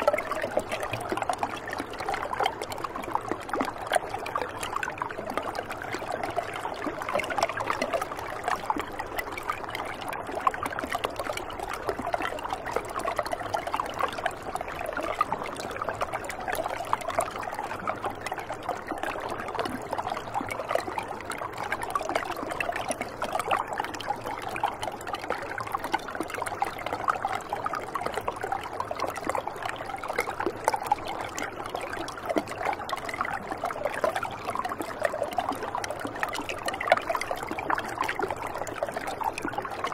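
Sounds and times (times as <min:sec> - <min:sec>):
river water trickling over rock: 0:00.0 - 0:39.9.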